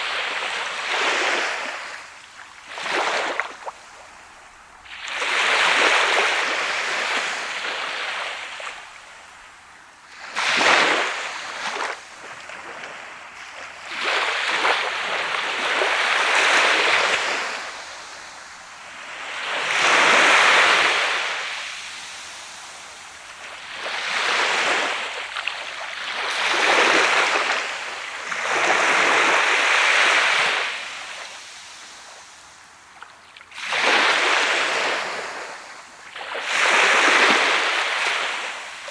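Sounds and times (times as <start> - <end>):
waves breaking on sandy beach: 0.0 - 38.9.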